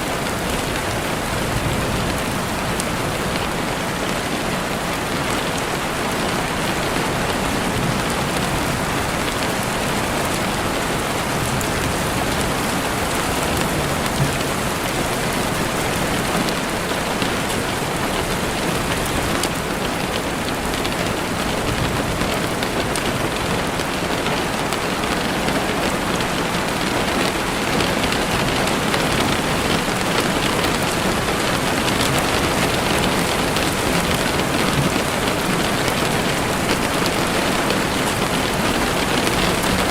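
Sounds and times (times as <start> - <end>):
heavy rain on window: 0.0 - 39.9.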